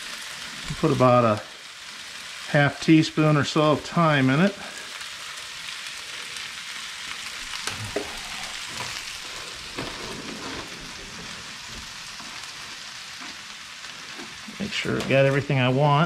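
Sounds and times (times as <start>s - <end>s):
food sizzling in a skillet: 0.0s - 16.0s.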